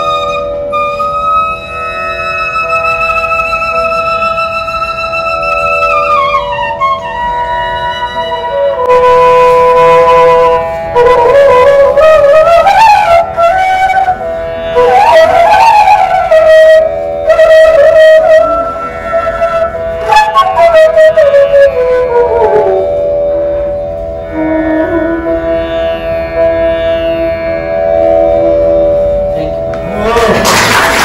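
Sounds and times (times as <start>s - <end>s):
bamboo flute melody: 0.0s - 31.0s.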